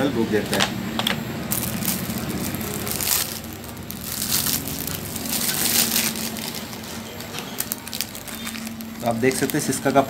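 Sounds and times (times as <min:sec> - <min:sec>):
plastic wrapping crinkling: 0:01.5 - 0:10.0.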